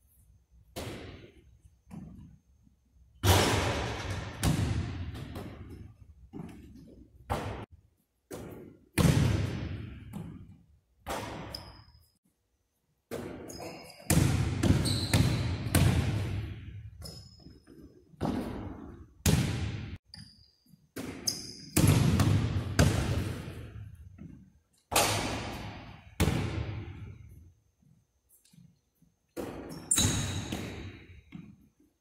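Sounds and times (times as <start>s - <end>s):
basketball bouncing on gym floor: 0.7s - 2.4s, 3.2s - 11.9s, 13.1s - 20.3s, 20.9s - 27.4s, 29.3s - 31.7s.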